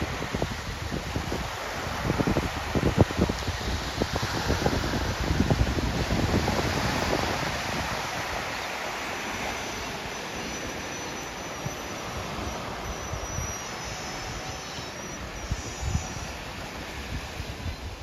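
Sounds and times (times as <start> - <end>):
small waves breaking on shore: 0.0 - 18.0
wind buffeting microphone: 0.0 - 18.0.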